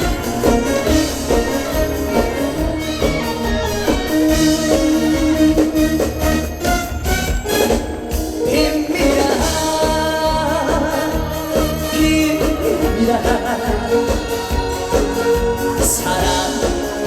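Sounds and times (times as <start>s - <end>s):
instrumental band melody over beat: 0.0s - 17.0s.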